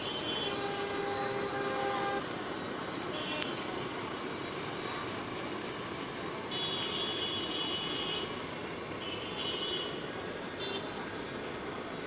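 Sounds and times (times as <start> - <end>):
traffic: 0.0 - 12.0.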